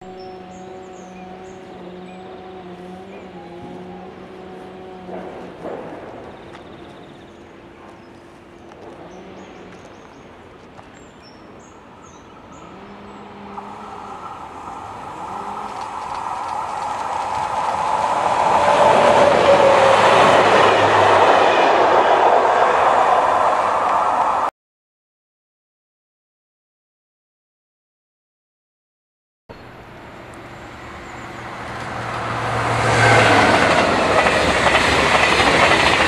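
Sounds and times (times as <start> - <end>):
train passing: 0.0 - 24.5, 29.6 - 36.0.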